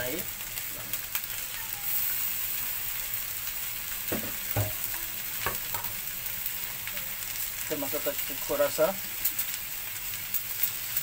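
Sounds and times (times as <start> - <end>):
food sizzling on grill plate: 0.0 - 11.0.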